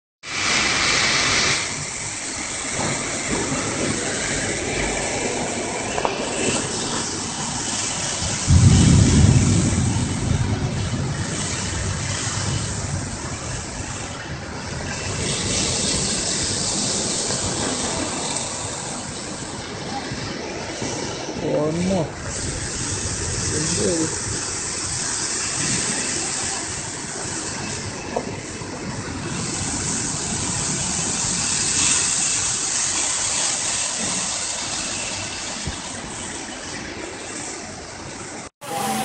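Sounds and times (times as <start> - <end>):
heavy rain lashing trees: 0.2 - 39.0
strong wind gusts: 0.3 - 39.0.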